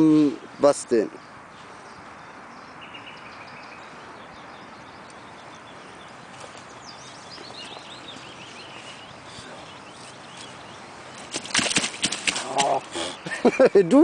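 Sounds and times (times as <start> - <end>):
outdoor background hiss: 0.0 - 14.0
songbird chirping: 0.0 - 14.0.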